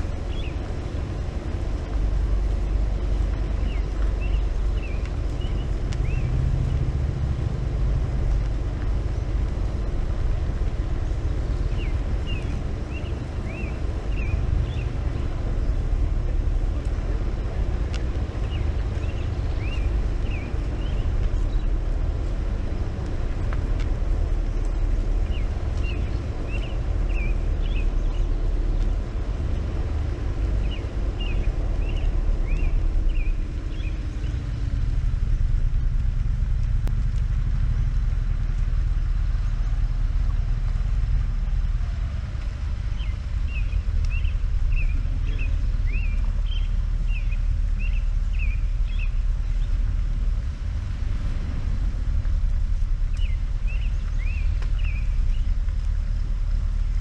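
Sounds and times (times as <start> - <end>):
car engine rumbling: 0.0 - 57.0
songbird chirping: 0.0 - 57.0
wind on microphone: 0.0 - 57.0.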